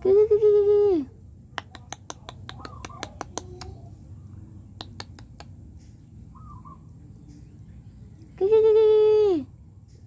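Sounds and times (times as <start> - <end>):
faint outdoor background: 0.0 - 10.0.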